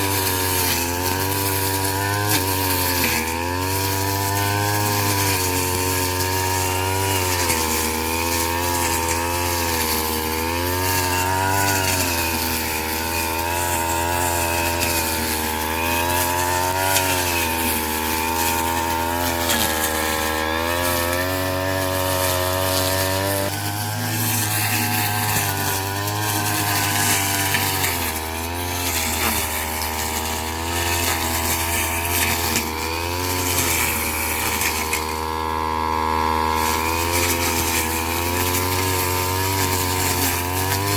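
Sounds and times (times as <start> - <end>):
small petrol engine cutting straw: 0.0 - 40.9.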